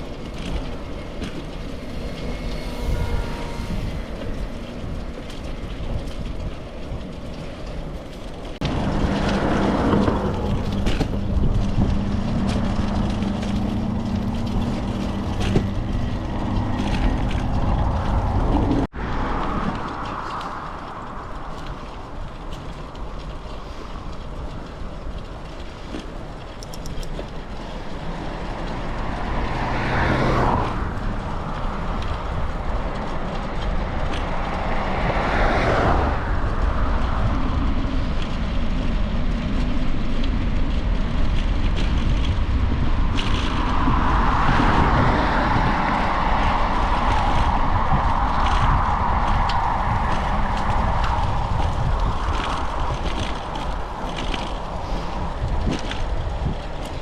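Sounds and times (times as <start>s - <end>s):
bicycle tyre noise: 0.0s - 57.0s
motor vehicles passing: 0.0s - 57.0s
wind noise: 0.0s - 57.0s.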